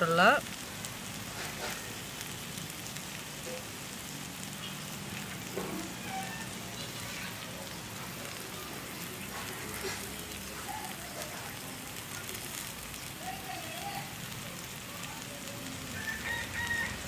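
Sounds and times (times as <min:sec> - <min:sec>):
batter sizzling on a griddle: 0:00.0 - 0:17.0
faint crackles: 0:00.0 - 0:17.0.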